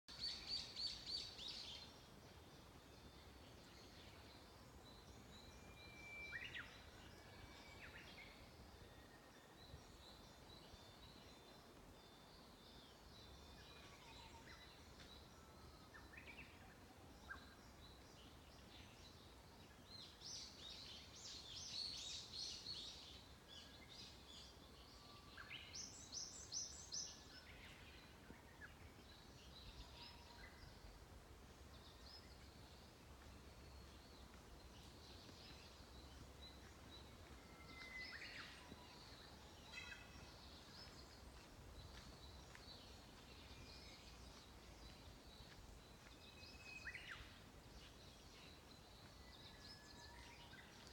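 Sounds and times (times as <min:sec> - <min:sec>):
songbirds singing and calling: 0:00.0 - 0:50.9.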